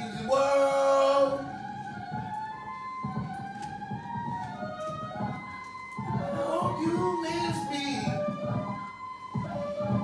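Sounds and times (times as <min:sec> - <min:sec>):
keyboard music: 0:00.0 - 0:10.0.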